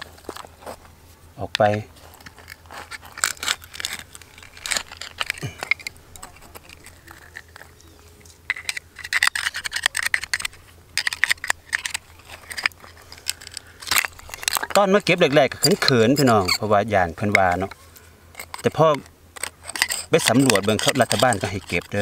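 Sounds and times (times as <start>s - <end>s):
blade scraping oyster shell: 1.6s - 22.0s.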